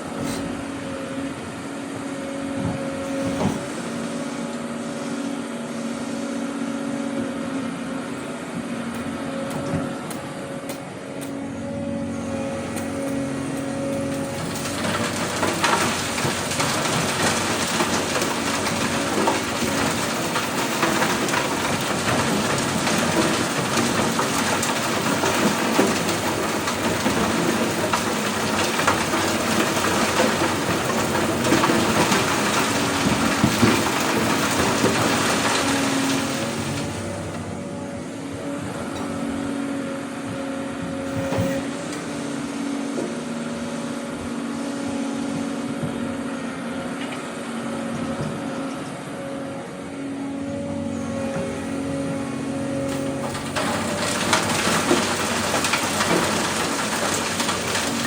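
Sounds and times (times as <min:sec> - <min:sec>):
excavator diesel engine humming: 0:00.0 - 0:58.0.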